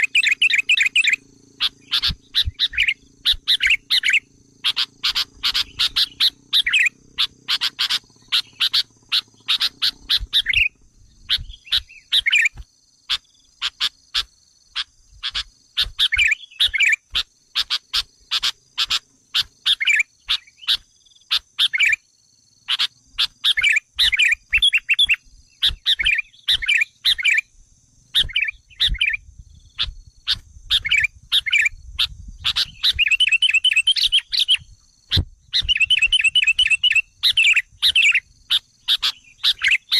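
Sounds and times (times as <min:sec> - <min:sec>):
bird chirping and warbling: 0:00.0 - 0:22.0, 0:22.6 - 0:27.5, 0:28.1 - 0:39.9.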